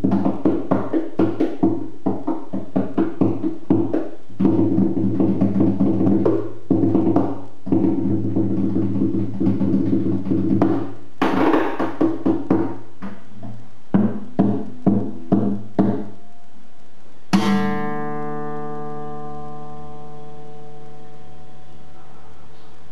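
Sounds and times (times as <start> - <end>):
acoustic guitar plucked and tapped: 0.0 - 16.2, 17.3 - 20.9.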